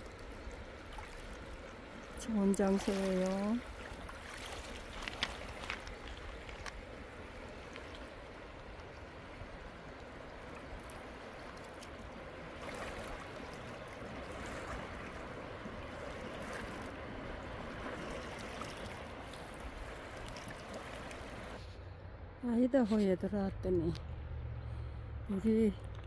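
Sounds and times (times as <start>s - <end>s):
river water rushing: 0.0s - 21.6s.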